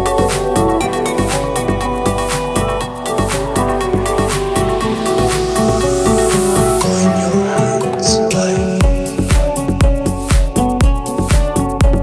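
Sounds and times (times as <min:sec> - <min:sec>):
kick drum beat: 0:00.0 - 0:06.9, 0:08.4 - 0:12.0
sustained synth chords: 0:00.0 - 0:10.3.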